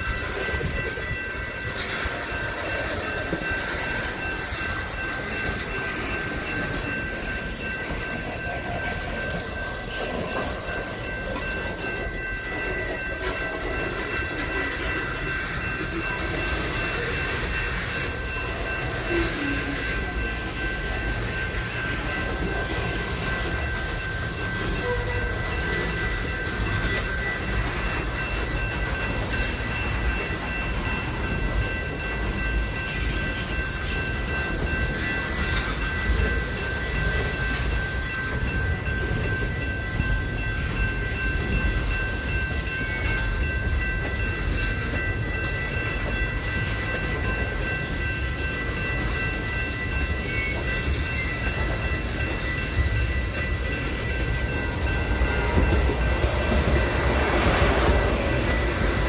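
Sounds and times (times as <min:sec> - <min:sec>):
high ringing tone: 0:00.0 - 0:59.0
train rumbling on rails: 0:00.0 - 0:59.0.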